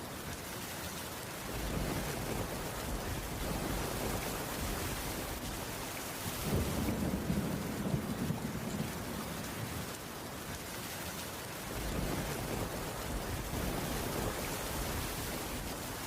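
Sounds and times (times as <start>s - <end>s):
heavy rain on a wooden roof: 0.0s - 16.0s.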